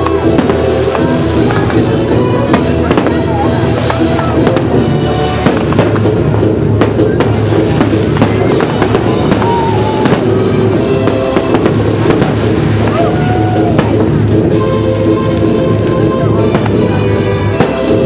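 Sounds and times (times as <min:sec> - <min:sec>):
fireworks bangs and crackles: 0:00.0 - 0:18.0
loud music: 0:00.0 - 0:18.0.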